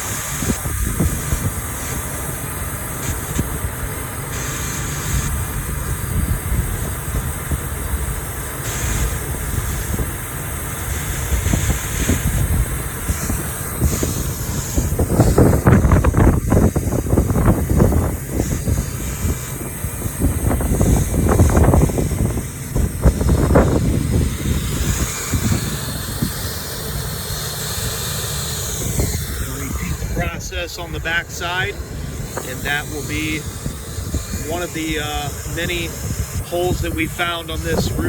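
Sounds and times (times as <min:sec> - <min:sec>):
hot-air welder hissing: 0:00.0 - 0:38.0.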